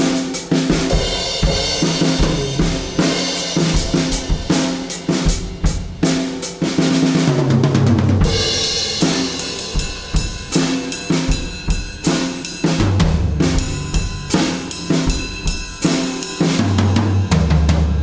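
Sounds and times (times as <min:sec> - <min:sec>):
tom drum fill: 0:00.0 - 0:15.5
drum beat on kick snare hi-hats: 0:00.0 - 0:18.0.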